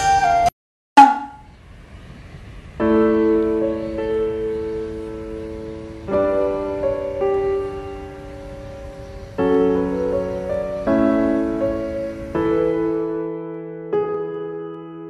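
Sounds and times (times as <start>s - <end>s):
piano chords ringing: 0.0s - 1.5s, 2.6s - 15.0s.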